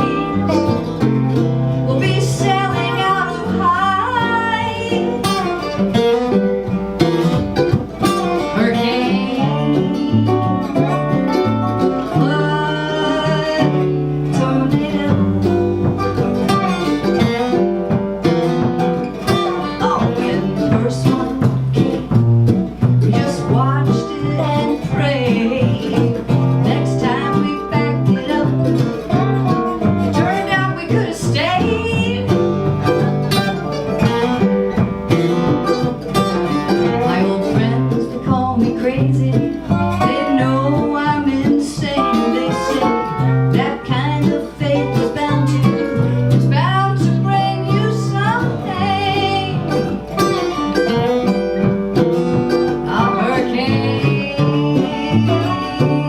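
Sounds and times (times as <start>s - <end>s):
plucked acoustic guitars: 0.0s - 56.0s.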